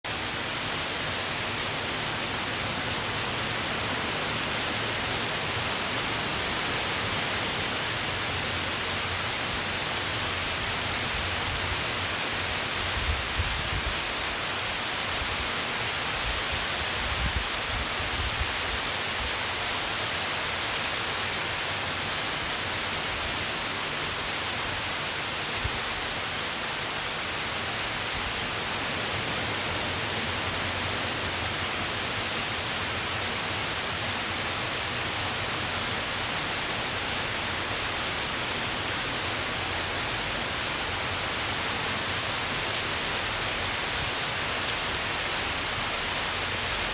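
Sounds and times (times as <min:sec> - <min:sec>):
steady rain falling: 0:00.1 - 0:46.9.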